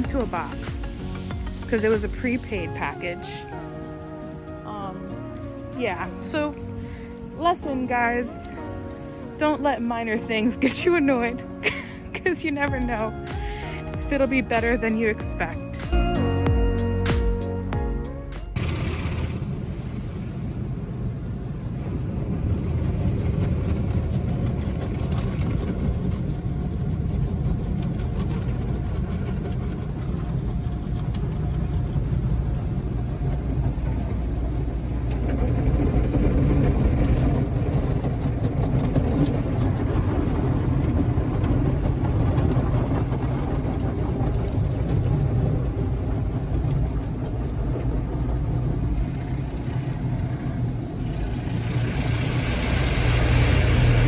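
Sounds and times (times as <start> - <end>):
car interior rumble: 0.0 - 54.0.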